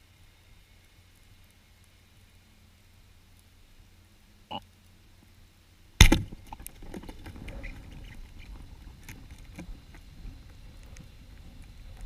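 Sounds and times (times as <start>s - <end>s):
small clicks and ticks: 0.0s - 12.0s.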